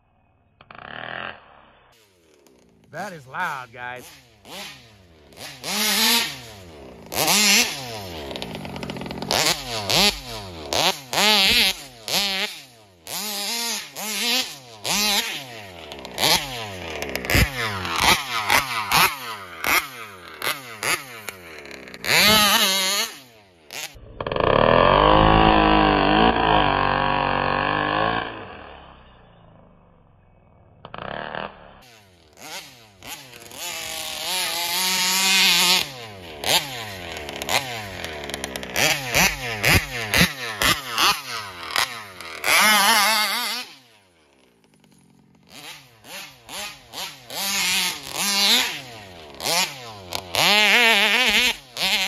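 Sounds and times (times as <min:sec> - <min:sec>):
two-stroke engine revving: 0:00.7 - 0:29.3, 0:30.8 - 0:52.0.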